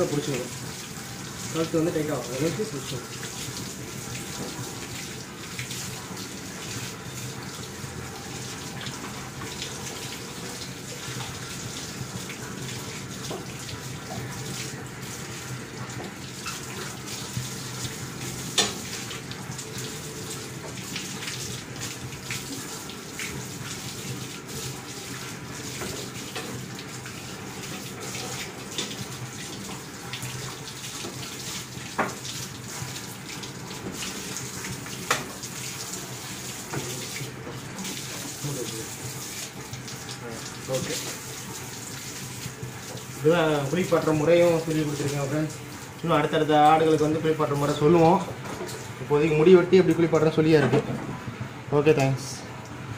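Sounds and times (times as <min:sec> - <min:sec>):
hose water spraying and splashing: 0:00.0 - 0:49.0.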